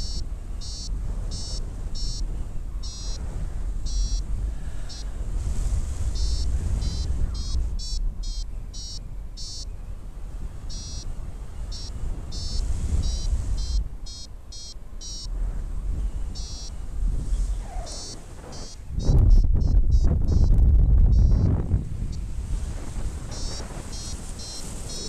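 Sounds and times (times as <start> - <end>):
variometer beeping: 0.0 - 5.1, 6.1 - 9.8, 10.6 - 25.0
wind rumble on microphone: 0.0 - 25.0.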